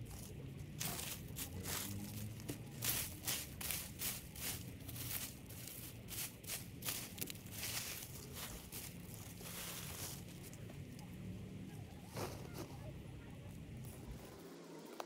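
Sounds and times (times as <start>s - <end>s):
scraping and rustling in soil: 0.0s - 14.5s
faint low hum: 0.0s - 15.0s.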